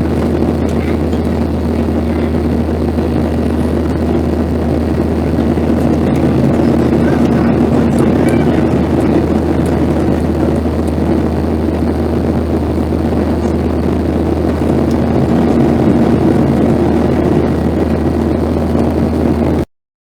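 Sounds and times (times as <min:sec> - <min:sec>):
rushing airflow: 0:00.0 - 0:19.6
jet engine drone: 0:00.0 - 0:19.7
low cabin hum: 0:00.0 - 0:19.7.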